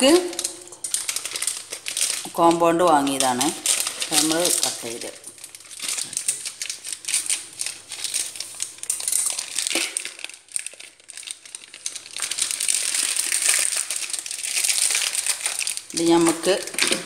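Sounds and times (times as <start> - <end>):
foil wrapper crinkling: 0.0 - 17.0.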